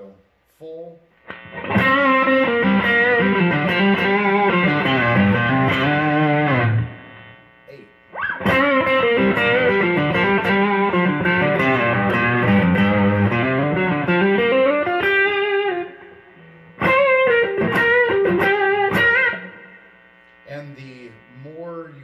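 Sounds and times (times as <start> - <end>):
overdriven electric guitar lead: 1.2 - 7.4, 8.1 - 20.4.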